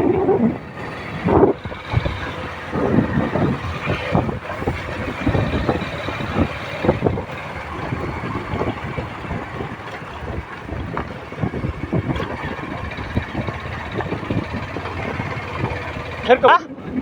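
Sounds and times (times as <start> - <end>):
motorcycle running: 0.0 - 17.0
wind buffeting microphone: 0.0 - 17.0.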